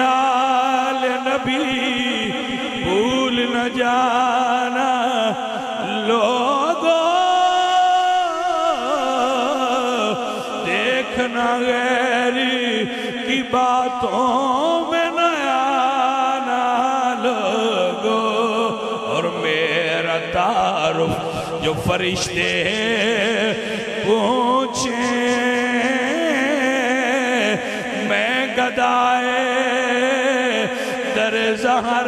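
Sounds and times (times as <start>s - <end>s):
man singing devotional song: 0.0s - 32.0s.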